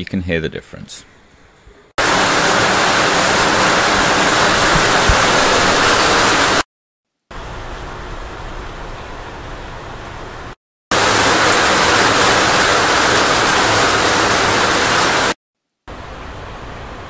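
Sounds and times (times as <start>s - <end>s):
heavy rain on a metal roof: 2.0s - 6.6s, 7.4s - 17.0s.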